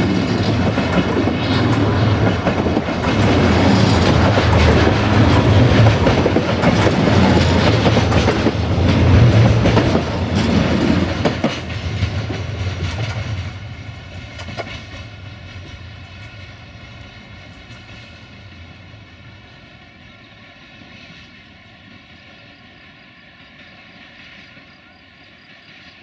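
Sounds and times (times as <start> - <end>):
freight train wagons rumbling and clacking: 0.0 - 26.0.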